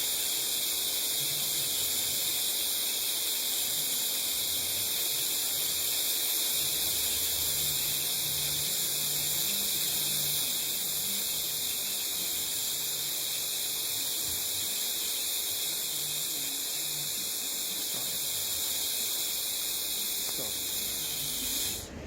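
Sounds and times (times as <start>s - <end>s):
welding arc hissing: 0.0s - 21.9s.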